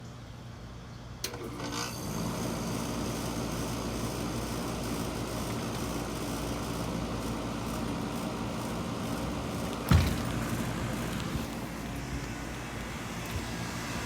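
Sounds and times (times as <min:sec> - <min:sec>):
air conditioner running hum: 0:00.0 - 0:14.0.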